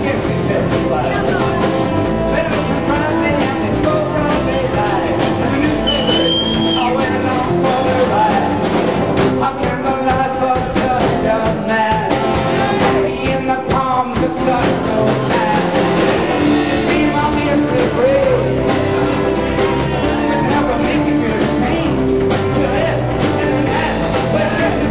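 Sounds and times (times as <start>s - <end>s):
person singing: 0.0s - 24.9s
rock band playing: 0.0s - 24.9s.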